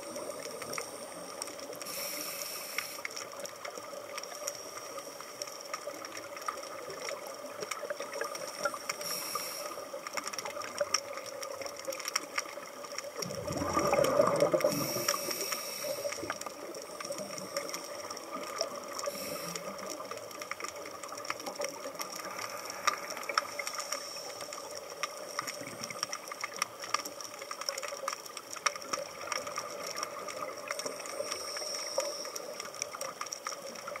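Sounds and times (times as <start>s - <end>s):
crackle of fine clicks: 0.0s - 34.0s
scuba exhaust bubbles: 0.0s - 34.0s.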